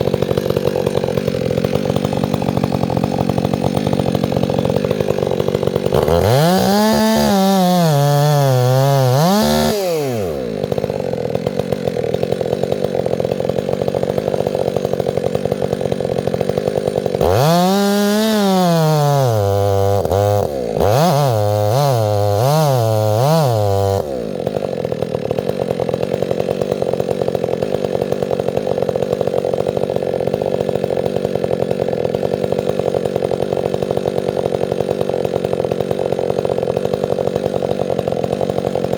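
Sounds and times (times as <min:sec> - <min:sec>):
chainsaw idling: 0:00.0 - 0:38.9
chainsaw revving: 0:00.0 - 0:38.9.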